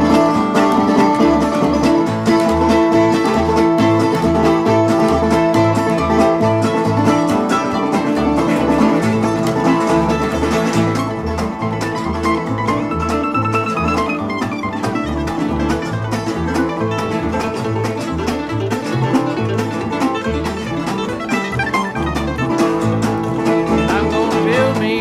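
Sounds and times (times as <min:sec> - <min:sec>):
acoustic guitar: 0:00.0 - 0:25.0
mandolin picking: 0:00.0 - 0:25.0
resonator guitar: 0:00.0 - 0:25.0.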